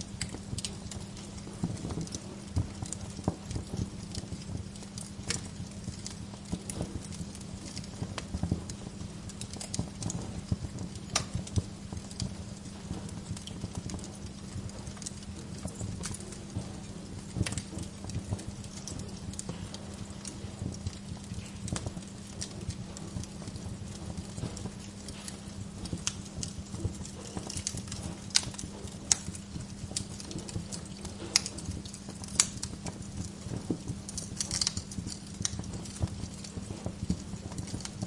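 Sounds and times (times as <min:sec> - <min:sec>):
low rumble and hum: 0:00.0 - 0:38.0
wood fire crackling and popping: 0:00.0 - 0:38.0.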